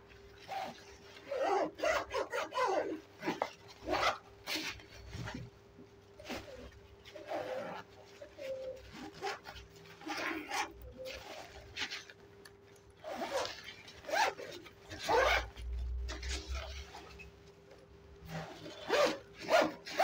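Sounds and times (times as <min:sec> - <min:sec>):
nylon fabric rustling: 0:00.0 - 0:20.0
zipper rasping open: 0:00.4 - 0:05.5, 0:06.2 - 0:12.2, 0:13.0 - 0:17.3, 0:18.2 - 0:20.0.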